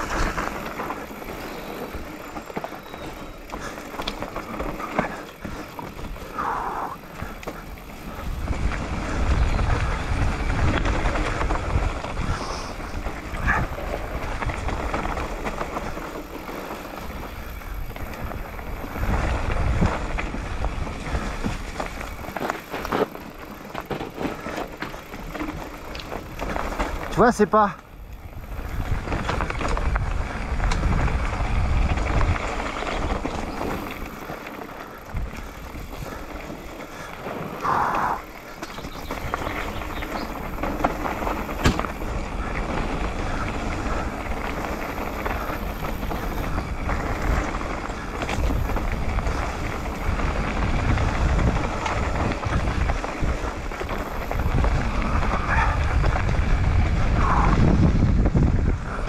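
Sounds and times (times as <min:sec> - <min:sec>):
wind rumble on microphone: 0:00.0 - 0:27.2, 0:27.8 - 0:59.0
bike tyres rattling over stones: 0:00.0 - 0:59.0.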